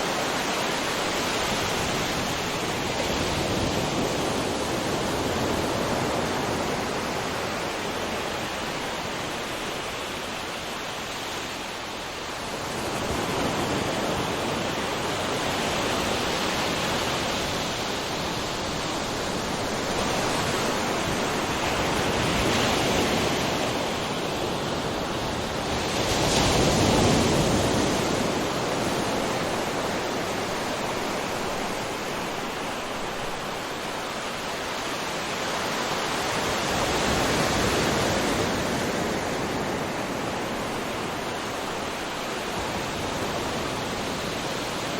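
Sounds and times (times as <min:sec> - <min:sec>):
ocean waves crashing on shore: 0:00.0 - 0:44.9.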